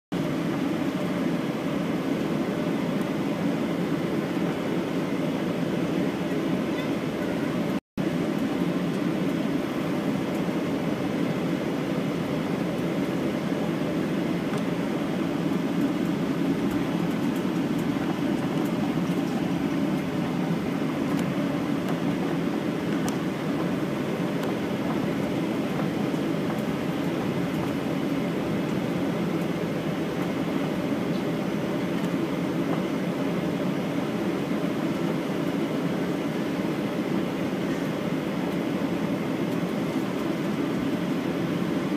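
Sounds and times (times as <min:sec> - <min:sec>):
airliner cabin rumble: 0:00.1 - 0:41.9.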